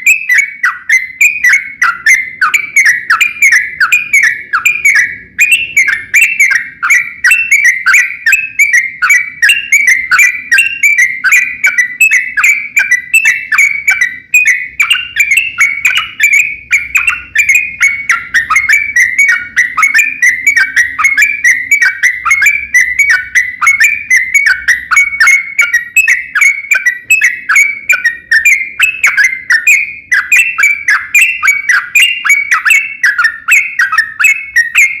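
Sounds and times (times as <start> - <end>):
bird chirping rapidly: 0.0 - 35.0.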